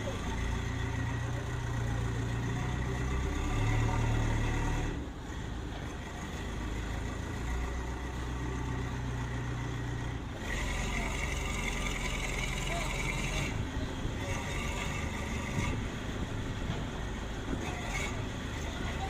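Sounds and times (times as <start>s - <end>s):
construction machine engine running: 0.0s - 19.0s.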